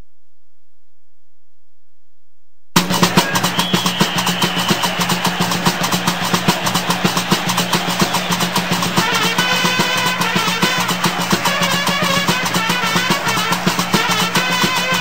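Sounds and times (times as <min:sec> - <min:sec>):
fast steady beat: 0:02.8 - 0:15.0.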